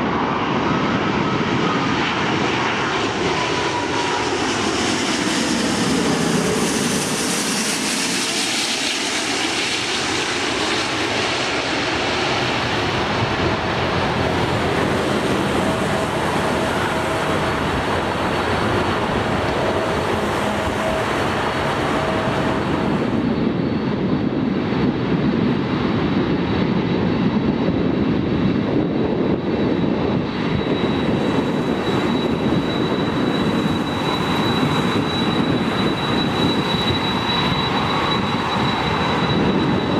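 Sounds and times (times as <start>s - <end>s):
jet engines roaring: 0.0s - 39.9s
jet engines taxiing: 0.0s - 39.9s.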